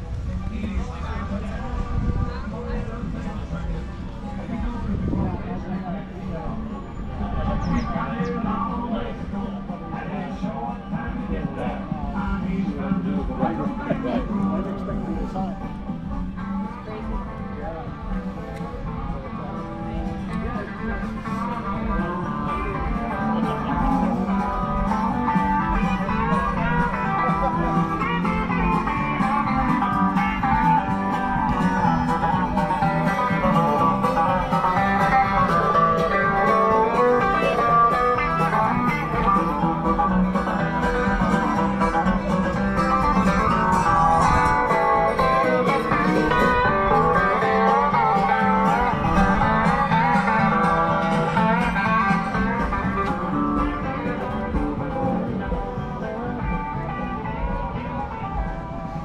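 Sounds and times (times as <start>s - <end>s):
guitar-led music: 0.0s - 59.0s.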